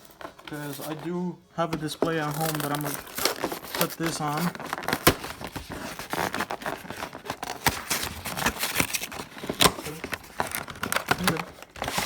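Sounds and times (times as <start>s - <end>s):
packaging rustling and crackling: 0.0s - 12.0s.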